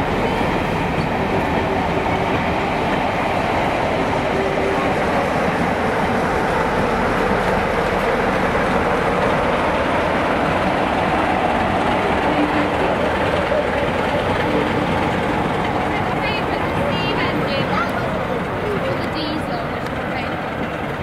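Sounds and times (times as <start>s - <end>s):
diesel locomotive passing: 0.0s - 21.0s
train coaches rumbling over rails: 0.0s - 21.0s.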